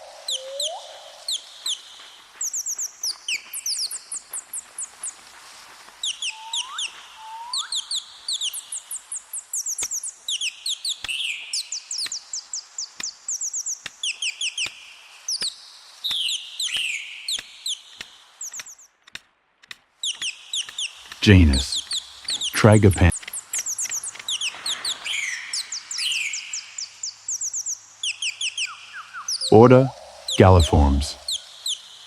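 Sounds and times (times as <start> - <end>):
small birds chirping: 0.0 - 19.0, 20.0 - 32.0.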